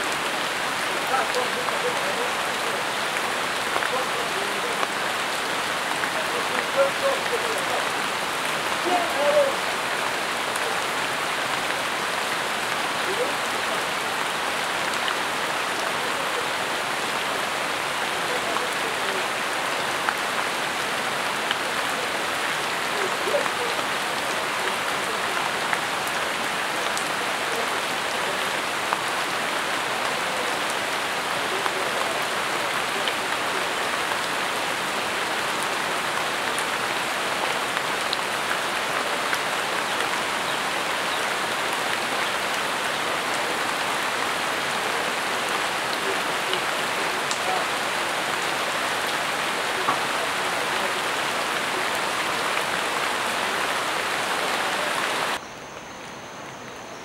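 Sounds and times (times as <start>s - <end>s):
louder single raindrops: 0.0s - 55.4s
rain falling on leaves: 0.0s - 57.0s.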